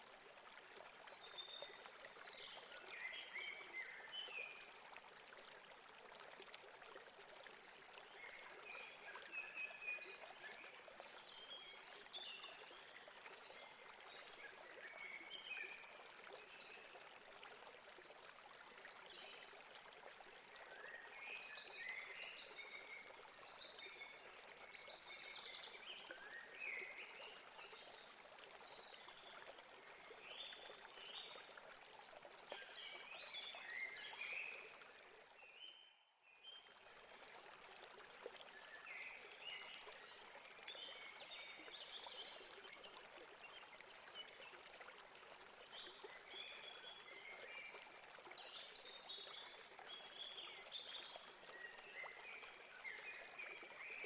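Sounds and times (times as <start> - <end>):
faint stream over rocks: 0.0 - 54.0.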